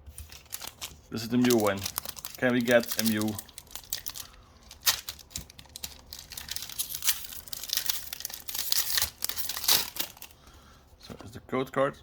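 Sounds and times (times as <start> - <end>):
foil wrapper crinkling and tearing: 0.1 - 10.4.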